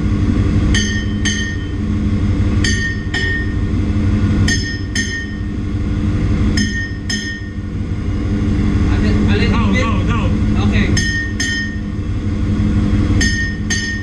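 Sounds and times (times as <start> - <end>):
engine-room machinery hum: 0.0 - 14.0.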